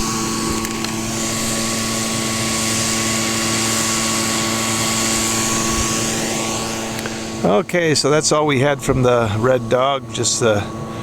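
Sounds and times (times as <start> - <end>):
airy hiss: 0.0 - 11.0
small gas engine running: 0.0 - 11.0.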